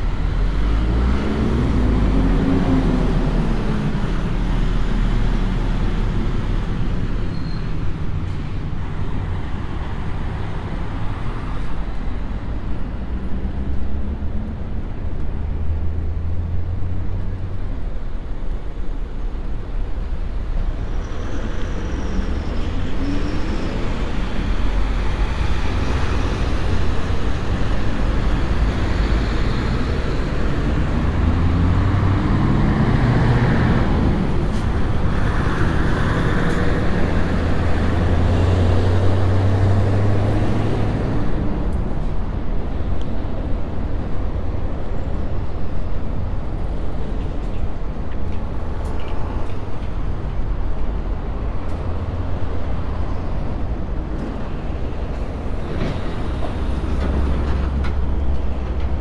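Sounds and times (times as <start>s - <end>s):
vehicles passing with low rumble: 0.0s - 59.0s.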